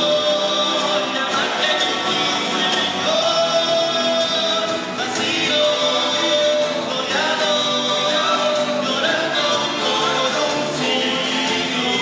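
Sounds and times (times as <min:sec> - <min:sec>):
acoustic guitars: 0:00.0 - 0:12.0
men singing in harmony: 0:00.0 - 0:12.0.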